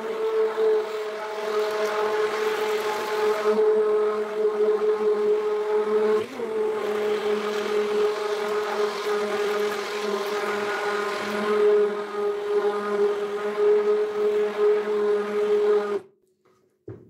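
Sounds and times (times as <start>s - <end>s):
immersion blender motor whine: 0.0s - 16.1s.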